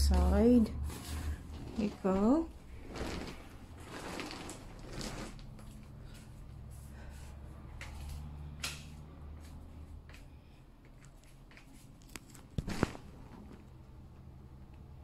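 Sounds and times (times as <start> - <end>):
faint clicks and rustles: 0.0 - 14.9.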